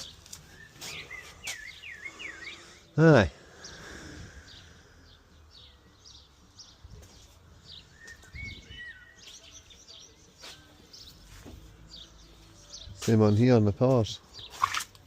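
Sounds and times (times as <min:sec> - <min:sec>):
lower whistled bird notes: 0:00.0 - 0:06.8, 0:07.6 - 0:13.4
small birds chirping: 0:00.0 - 0:15.0.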